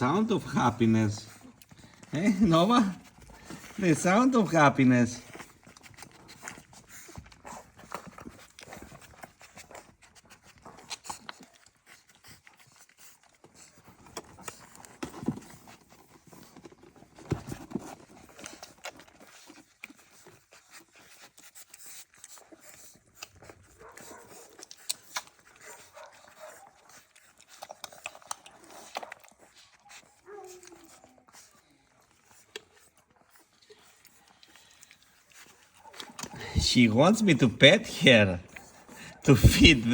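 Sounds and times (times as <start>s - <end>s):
dog panting: 0.0s - 39.9s.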